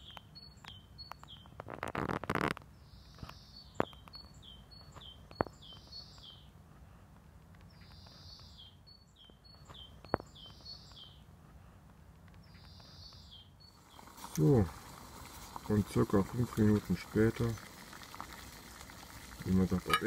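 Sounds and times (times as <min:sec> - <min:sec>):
songbird singing: 0:00.0 - 0:06.6, 0:07.4 - 0:20.0
faint steady background noise: 0:00.0 - 0:20.0.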